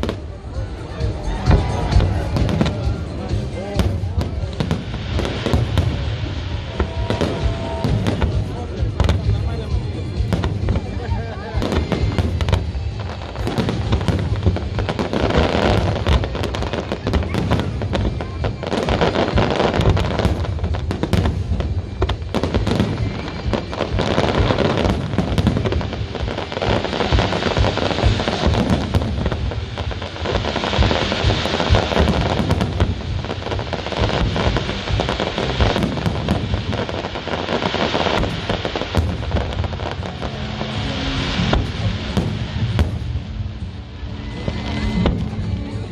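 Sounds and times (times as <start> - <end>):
fireworks bursting and crackling: 0.0 - 45.9.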